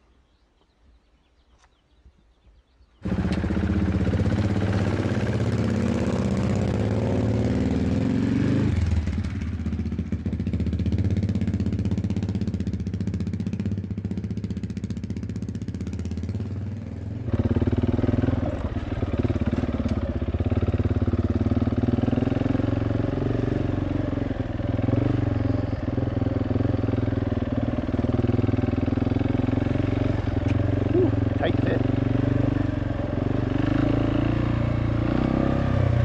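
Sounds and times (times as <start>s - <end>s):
motorcycle engine at low revs: 1.4s - 36.0s.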